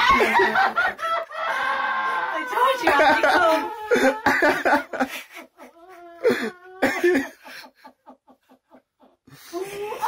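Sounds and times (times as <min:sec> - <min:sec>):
woman crying and sobbing: 0:00.0 - 0:08.0, 0:09.5 - 0:10.0.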